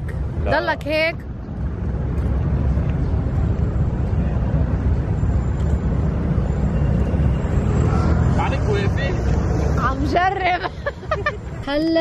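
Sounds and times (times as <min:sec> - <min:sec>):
low rumble of city traffic: 0:00.0 - 0:12.0.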